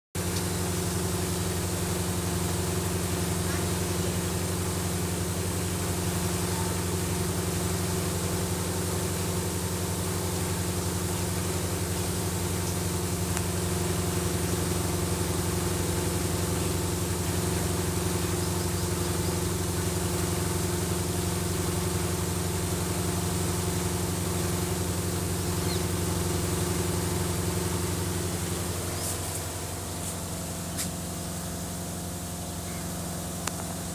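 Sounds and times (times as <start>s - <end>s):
motor humming: 0.2s - 33.9s.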